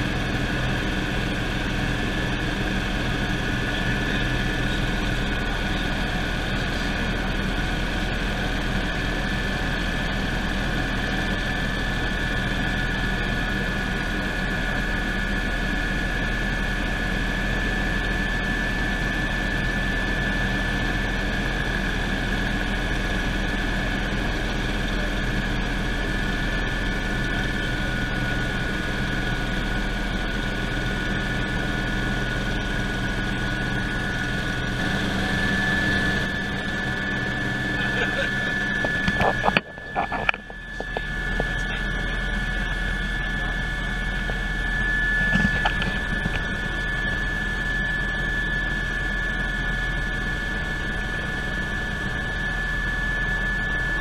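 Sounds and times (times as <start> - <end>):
helicopter drone with whine: 0.0 - 54.0.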